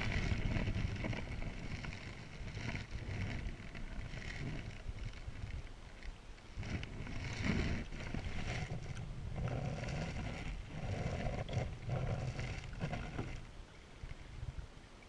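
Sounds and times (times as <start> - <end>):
hand rubbing camera: 0.0 - 5.6, 6.5 - 13.5.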